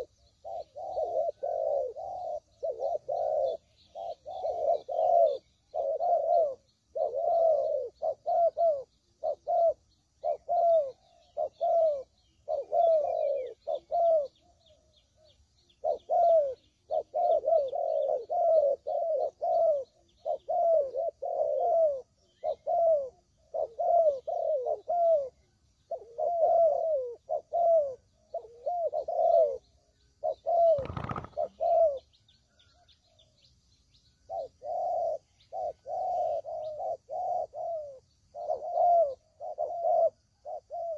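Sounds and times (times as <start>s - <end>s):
dove cooing: 0.0s - 33.4s, 34.1s - 40.9s
small birds chirping: 0.0s - 40.9s.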